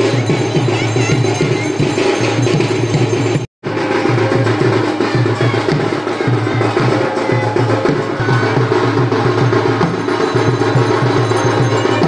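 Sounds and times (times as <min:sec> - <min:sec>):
music with steady percussion: 0:00.0 - 0:12.0.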